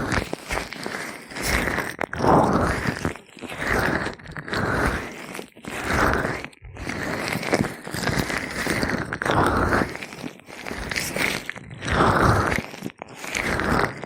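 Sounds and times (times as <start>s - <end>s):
gloved hands rubbing oiled ears: 0.0s - 14.0s.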